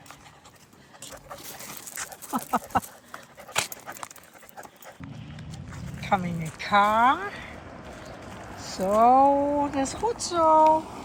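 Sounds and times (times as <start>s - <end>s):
light clicks and scuffs: 0.0s - 10.0s.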